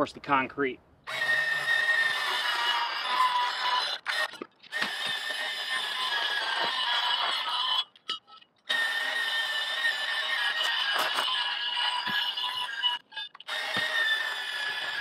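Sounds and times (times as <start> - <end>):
power saw cutting steel pipe: 1.1 - 8.0, 8.7 - 15.0.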